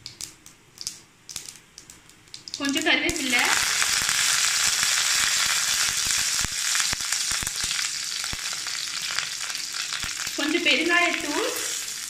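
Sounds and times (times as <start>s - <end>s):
sharp crackles and pops: 0.0s - 12.0s
leaves sizzling in hot oil: 2.3s - 12.0s.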